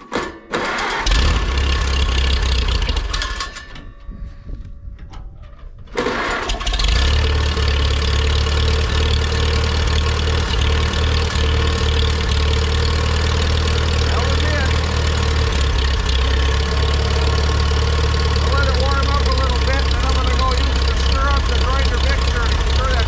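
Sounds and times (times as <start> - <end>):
tractor engine starting: 0.0 - 23.0.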